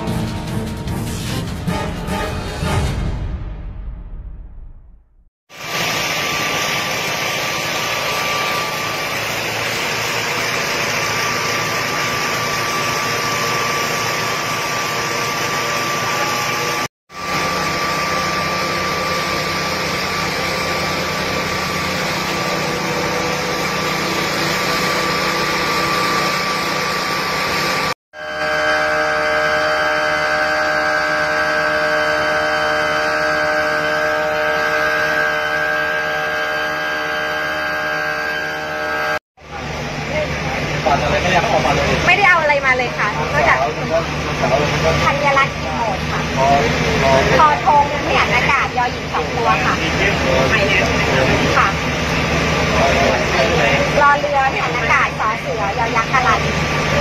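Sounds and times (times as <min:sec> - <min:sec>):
pump engine drone: 0:05.5 - 0:57.0
steady whine: 0:05.5 - 0:57.0.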